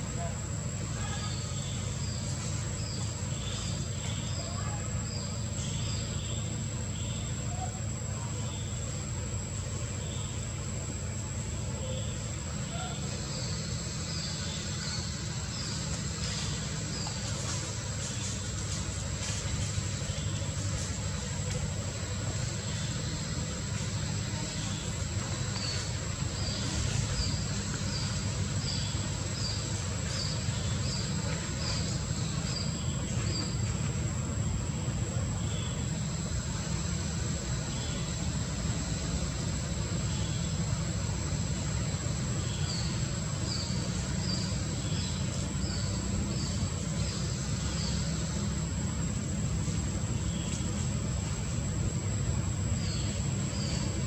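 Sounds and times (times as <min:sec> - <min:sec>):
low rumbling background noise: 0:00.0 - 0:54.0.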